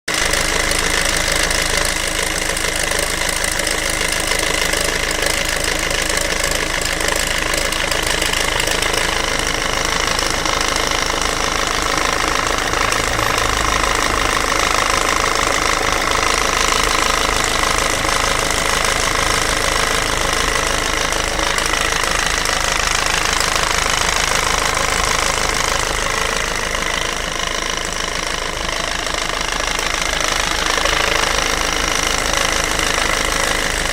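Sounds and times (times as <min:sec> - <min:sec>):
diesel engine clattering: 0:00.1 - 0:33.9.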